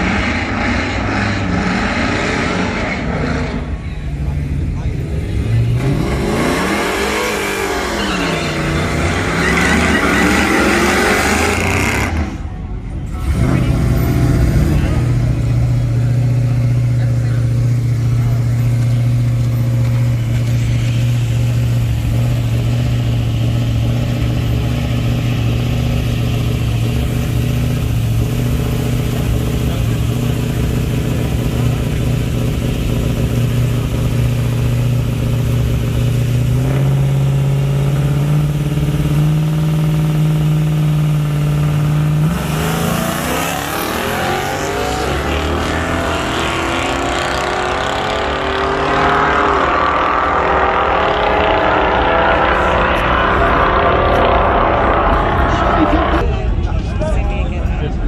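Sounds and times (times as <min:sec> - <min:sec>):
truck engine idling and revving: 0:00.0 - 0:58.0.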